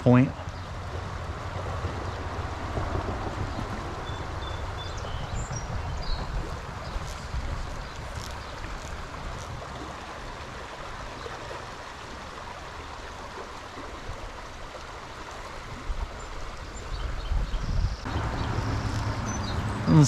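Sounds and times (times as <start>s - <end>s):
stream water rushing and splashing: 0.0s - 20.0s.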